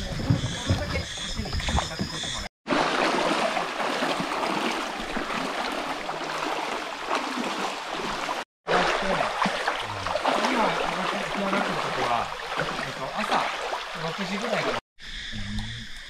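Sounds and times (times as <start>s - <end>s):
water trickling and gurgling: 0.0s - 14.8s.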